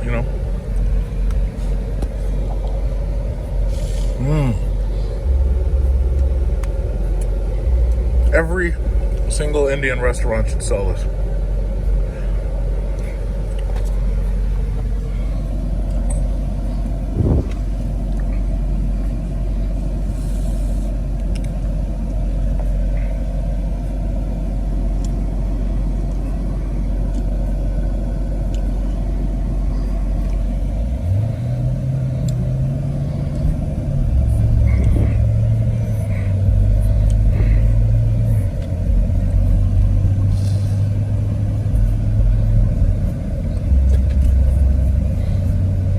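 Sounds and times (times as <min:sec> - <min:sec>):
car engine and road noise: 0:00.0 - 0:45.9
loud low engine drone: 0:00.0 - 0:45.9.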